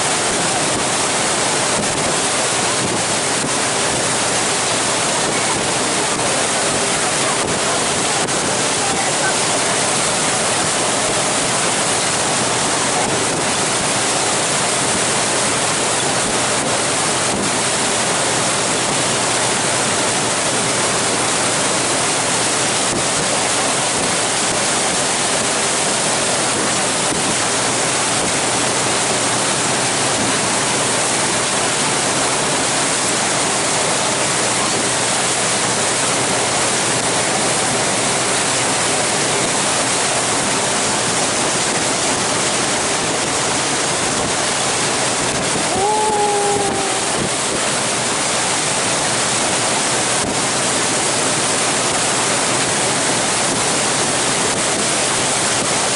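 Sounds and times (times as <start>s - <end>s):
water rushing past boat hull: 0.0s - 55.9s.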